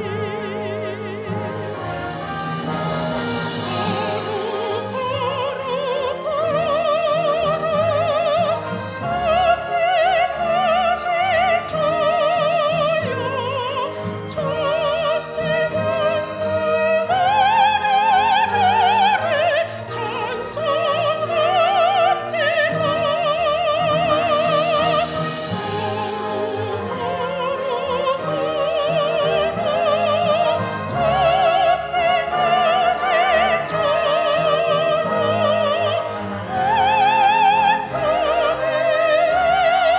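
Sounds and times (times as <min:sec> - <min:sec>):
woman singing operatically: 0:00.0 - 0:02.0, 0:03.6 - 0:39.9
instrumental accompaniment: 0:00.0 - 0:39.9.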